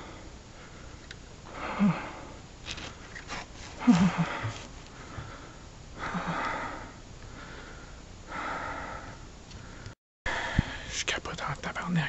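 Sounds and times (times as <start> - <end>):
man breathing heavily: 0.0 - 2.5, 3.4 - 11.0.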